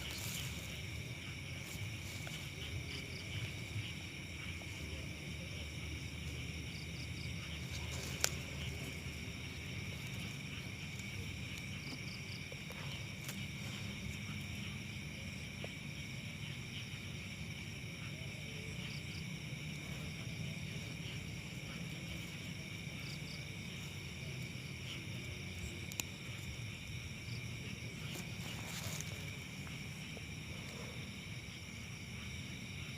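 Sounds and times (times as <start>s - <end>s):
insects chirping shrilly: 0.0s - 32.9s.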